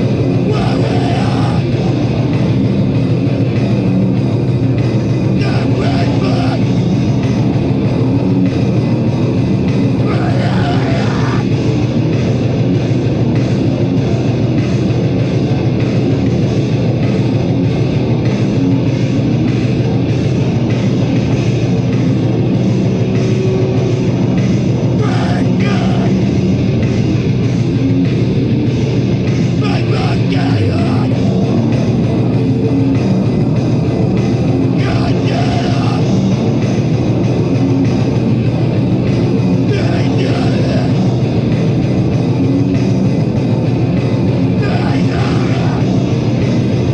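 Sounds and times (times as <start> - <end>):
heavy metal band playing: 0.0 - 46.9.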